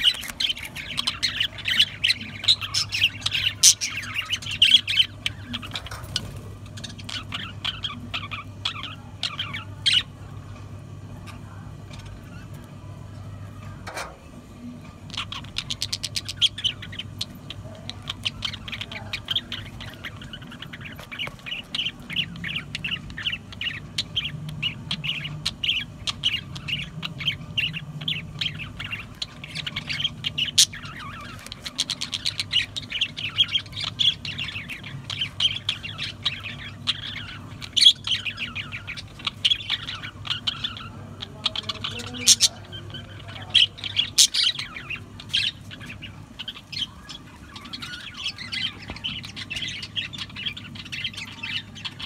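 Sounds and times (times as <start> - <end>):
budgerigars chattering and warbling: 0.0 - 52.0.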